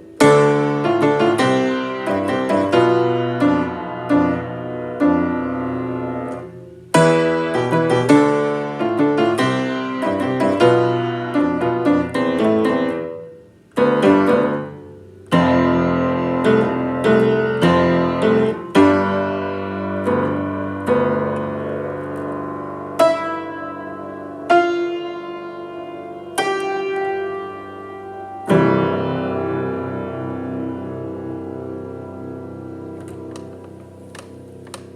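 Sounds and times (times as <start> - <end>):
solo piano music: 0.0 - 34.9.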